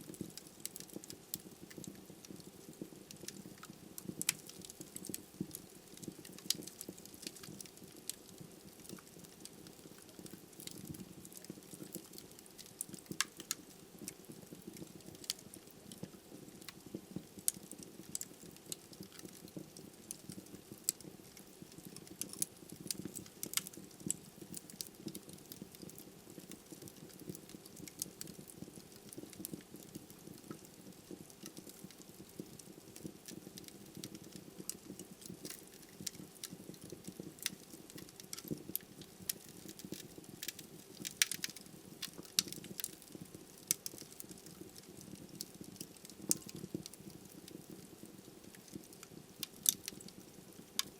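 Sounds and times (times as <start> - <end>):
logs crackling and popping: 0.0 - 50.9
wood fire burning: 0.0 - 50.9.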